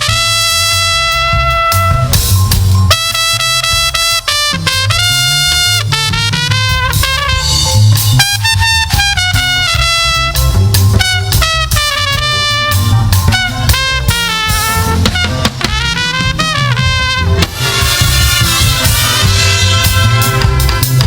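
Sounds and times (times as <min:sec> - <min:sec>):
brass lead melody: 0:00.0 - 0:21.0
heavy bass line: 0:00.0 - 0:21.0.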